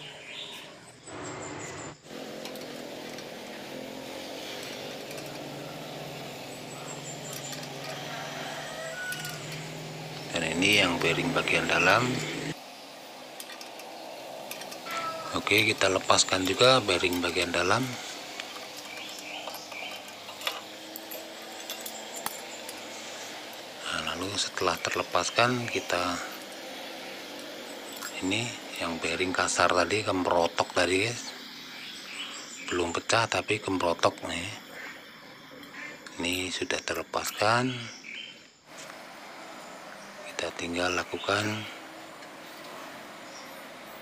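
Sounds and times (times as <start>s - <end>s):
machine humming: 1.0s - 32.8s, 38.7s - 44.0s.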